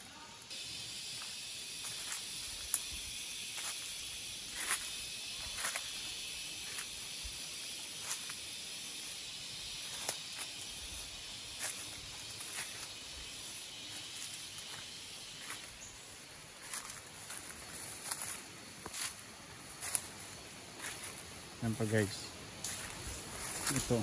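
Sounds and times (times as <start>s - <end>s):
insects droning: 0.0s - 24.0s
footsteps crunching on leaf litter: 0.9s - 7.0s, 9.7s - 24.0s.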